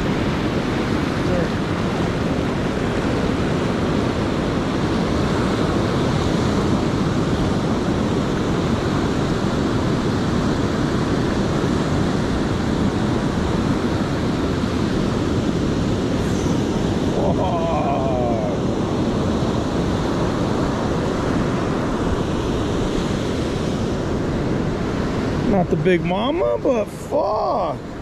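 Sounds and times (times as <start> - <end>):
ocean waves washing up on beach: 0.0 - 28.0.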